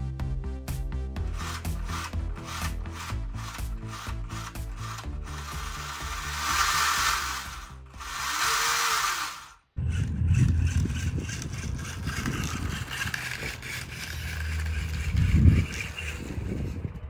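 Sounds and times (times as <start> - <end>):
rc car motor and tyres: 1.2 - 17.0.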